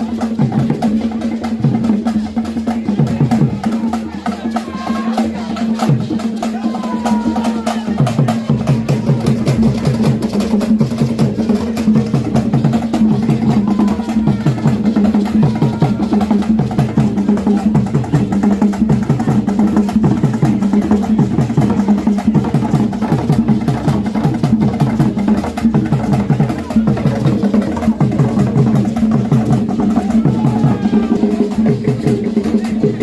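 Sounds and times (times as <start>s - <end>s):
music with fast percussion and bass: 0.0s - 33.0s.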